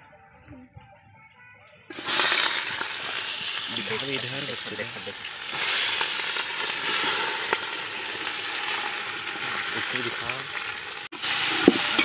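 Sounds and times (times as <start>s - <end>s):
onions sizzling in a pot: 1.9s - 12.0s.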